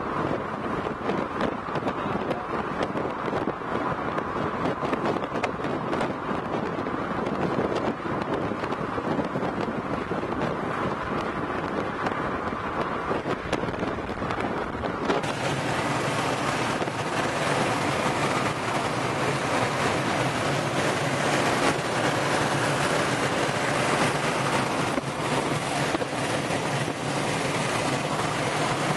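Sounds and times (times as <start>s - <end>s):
low engine hum: 0.0s - 28.9s
road and wind noise: 0.0s - 28.9s
wind rushing over microphone: 0.0s - 28.9s.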